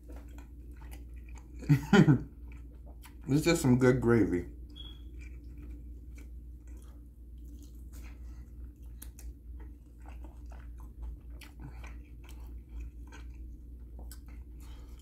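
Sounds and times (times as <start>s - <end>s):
person chewing crunchy food: 0.0s - 3.7s, 4.4s - 15.0s
steady low hum: 0.0s - 15.0s.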